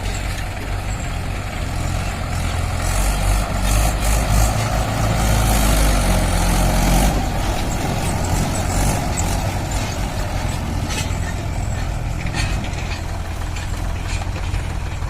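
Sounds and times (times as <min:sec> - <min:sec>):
diesel engine rumbling under load: 0:00.0 - 0:15.0.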